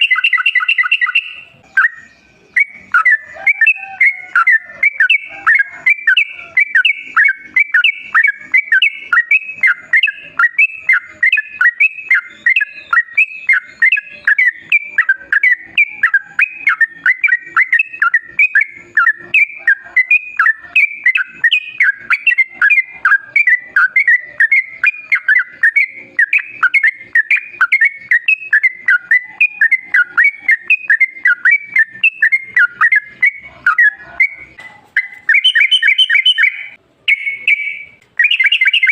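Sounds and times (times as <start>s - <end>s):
bird singing bubbling chirps: 0.0s - 38.9s.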